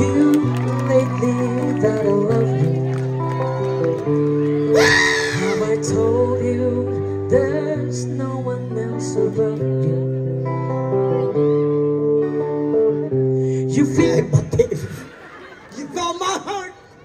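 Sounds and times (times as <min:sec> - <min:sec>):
electric guitar chords: 0:00.0 - 0:15.2.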